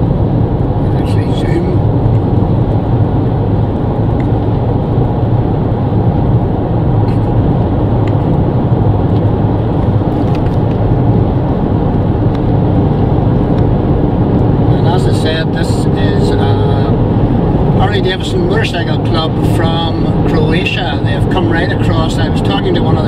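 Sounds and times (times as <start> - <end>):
car cabin road noise: 0.0 - 23.0.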